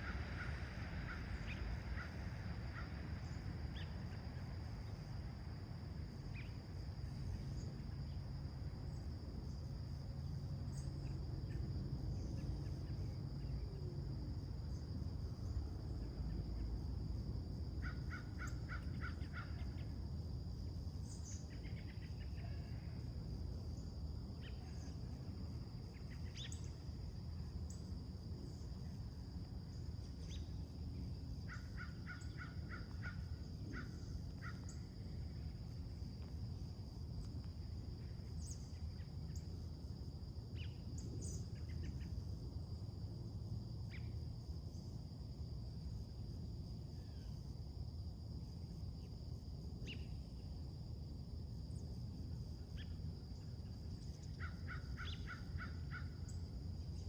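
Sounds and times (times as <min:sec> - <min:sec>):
high insect drone: 0:00.0 - 0:57.0
low background rumble: 0:00.0 - 0:57.0.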